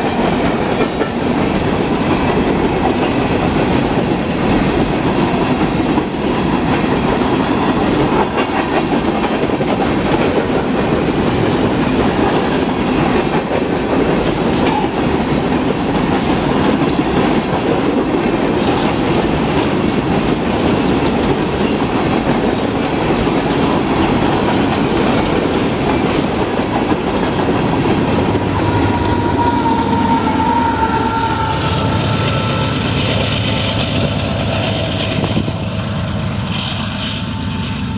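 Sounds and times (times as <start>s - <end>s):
wheels clacking over rail joints: 0.0s - 31.2s
diesel locomotive engine drone: 0.0s - 37.9s
train wheels rumbling on rails: 0.0s - 37.9s.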